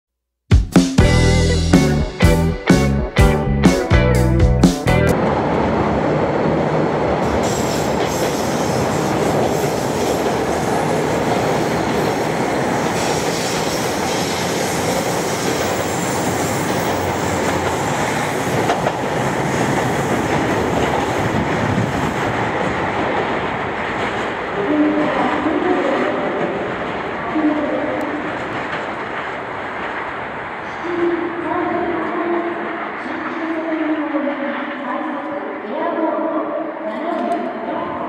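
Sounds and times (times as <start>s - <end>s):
train rumbling: 1.0s - 38.0s.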